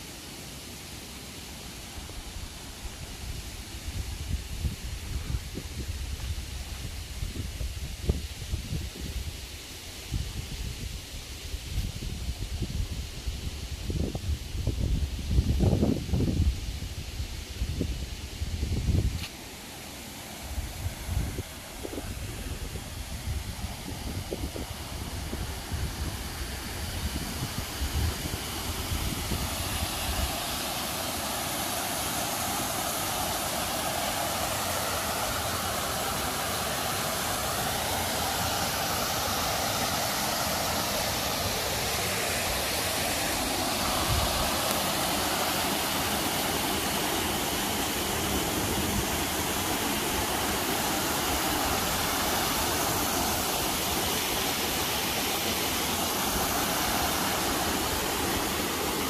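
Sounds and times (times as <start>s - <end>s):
waterfall rushing into a pool: 0.0s - 59.0s.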